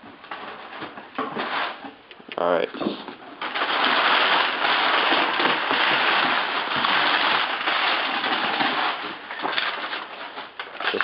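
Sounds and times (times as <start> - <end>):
packing paper rustling: 0.0 - 11.0.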